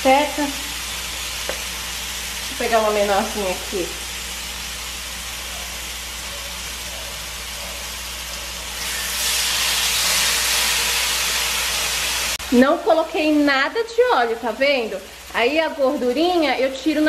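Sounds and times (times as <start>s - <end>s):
pork chops sizzling in a pan: 0.0s - 17.0s.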